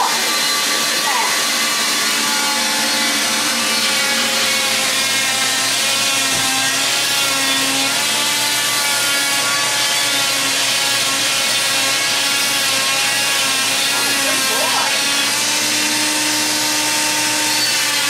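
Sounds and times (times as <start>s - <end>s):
dust vacuum running: 0.0s - 18.0s
saw cutting through cast: 0.0s - 18.0s.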